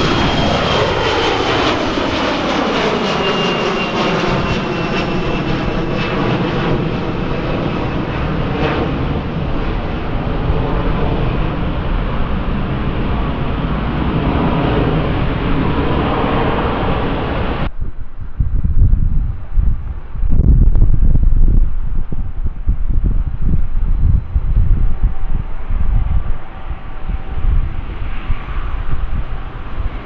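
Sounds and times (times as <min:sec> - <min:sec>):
airliner engines passing: 0:00.0 - 0:30.0
wind on the microphone: 0:00.0 - 0:30.0.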